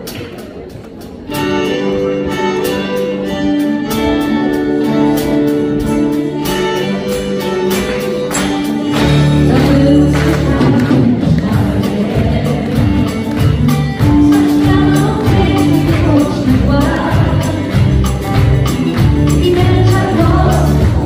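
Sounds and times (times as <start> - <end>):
live pop band playing: 0.0 - 21.0
bass: 4.1 - 21.0.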